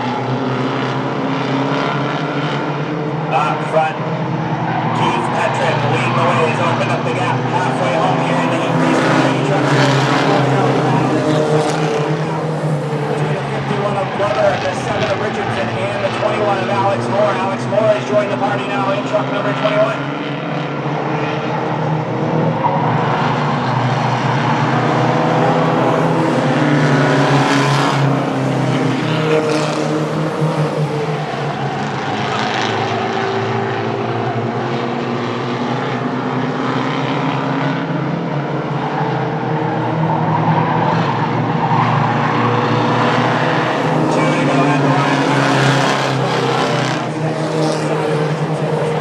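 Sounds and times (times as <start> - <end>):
race truck engines passing: 0.0 - 49.0.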